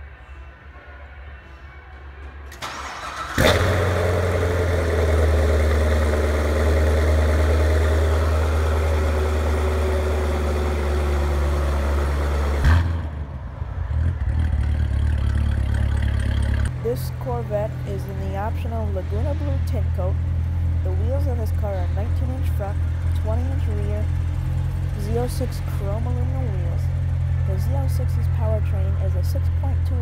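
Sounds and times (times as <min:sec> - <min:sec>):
engine blipping: 0:02.2 - 0:30.0
loud car engine idling: 0:02.6 - 0:30.0.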